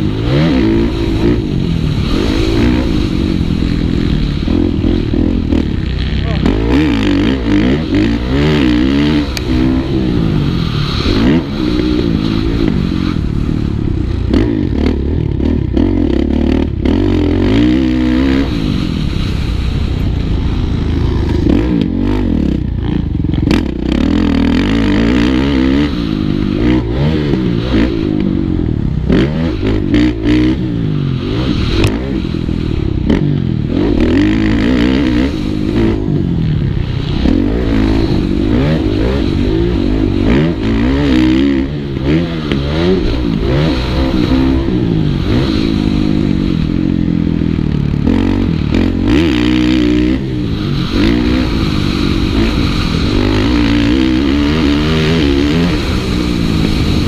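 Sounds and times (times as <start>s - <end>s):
motocross engine revving: 0.0s - 57.0s.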